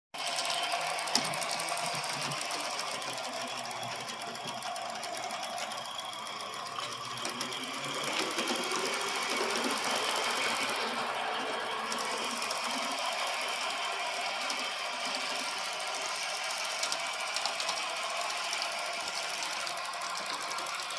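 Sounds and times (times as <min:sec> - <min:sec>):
steam locomotive chuffing clatter: 0:00.2 - 0:20.9.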